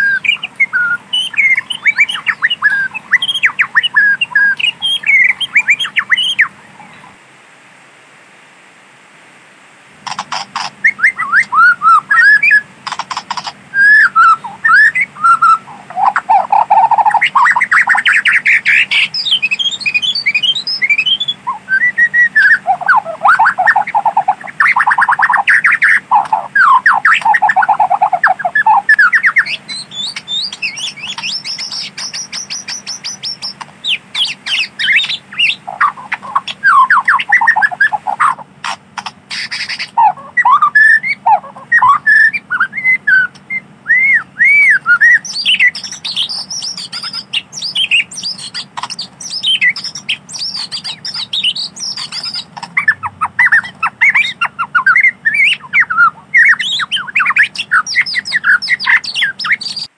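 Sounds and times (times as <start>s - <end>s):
bird singing trills and whistles: 0.0s - 7.1s, 10.1s - 59.9s.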